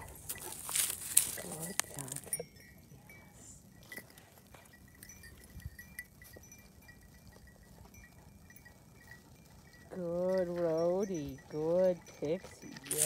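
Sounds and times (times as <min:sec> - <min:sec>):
small bells tinkling: 0:00.3 - 0:13.0.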